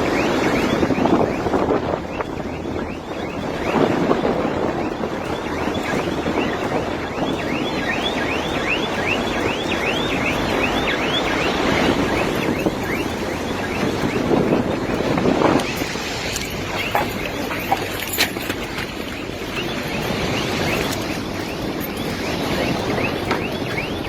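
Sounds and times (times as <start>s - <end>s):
rapid high chirping warble: 0.0s - 24.0s
wind on microphone: 0.0s - 24.0s.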